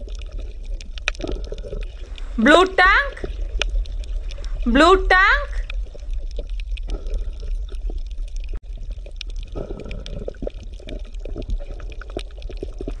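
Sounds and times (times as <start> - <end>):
water bubbling and gurgling: 0.0 - 2.4, 3.0 - 4.6, 5.6 - 13.0.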